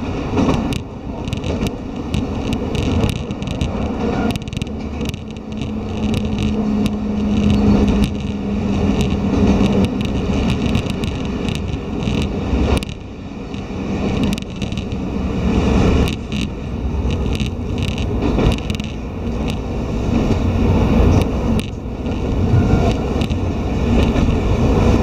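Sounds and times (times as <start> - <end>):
railcar wheels and engine rumble: 0.0 - 25.0
clicks and rattles: 0.3 - 15.0, 15.9 - 20.4, 21.0 - 24.4.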